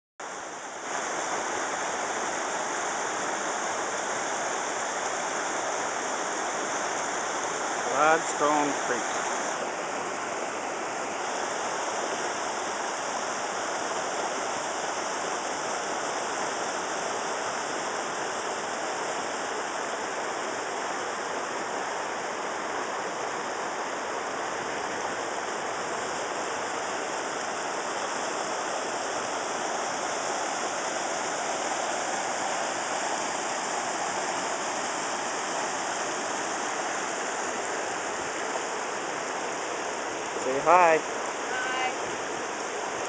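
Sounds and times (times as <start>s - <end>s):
creek rushing over stones: 0.2s - 43.0s.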